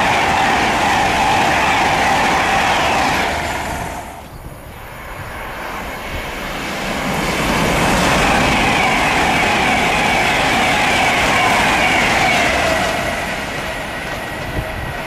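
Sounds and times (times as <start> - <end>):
electric trains passing at speed: 0.0 - 15.0.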